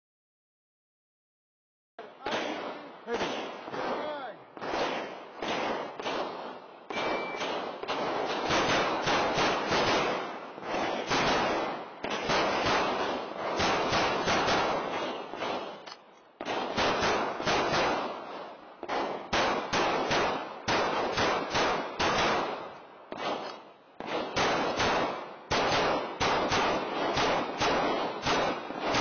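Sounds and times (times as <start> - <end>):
pistol shots: 2.0 - 29.0.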